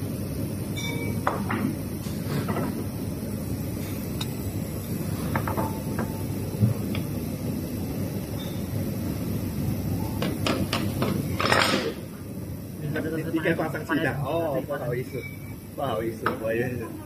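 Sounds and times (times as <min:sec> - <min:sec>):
restaurant low rumble: 0:00.0 - 0:17.0.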